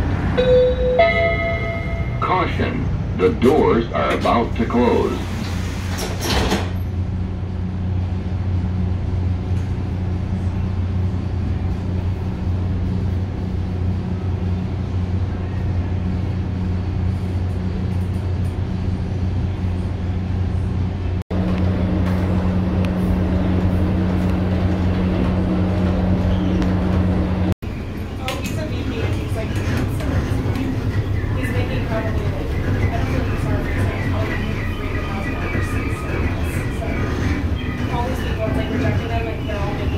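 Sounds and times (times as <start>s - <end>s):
train coach interior hum: 0.0s - 39.9s.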